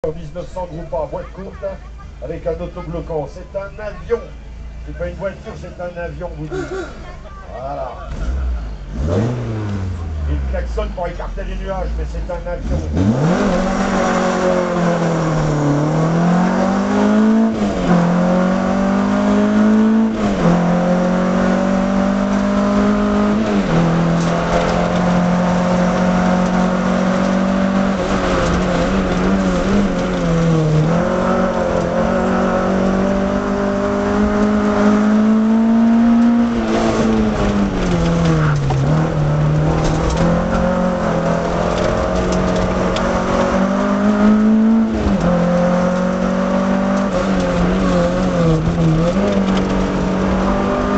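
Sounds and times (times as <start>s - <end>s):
car engine revving through gears: 8.0s - 50.9s.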